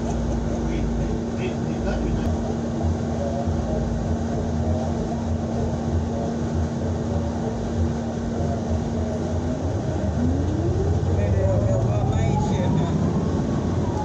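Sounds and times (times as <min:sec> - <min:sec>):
bus engine rumble: 0:00.0 - 0:14.0
constant droning tone: 0:00.0 - 0:14.0.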